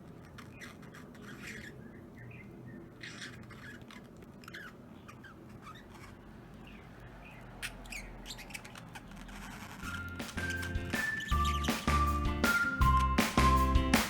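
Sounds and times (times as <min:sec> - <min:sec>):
budgerigars chirping softly: 0:00.4 - 0:12.2.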